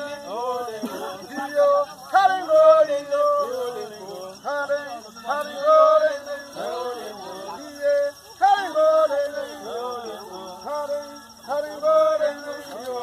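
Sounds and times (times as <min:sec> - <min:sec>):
men singing a chant: 0:00.0 - 0:13.0.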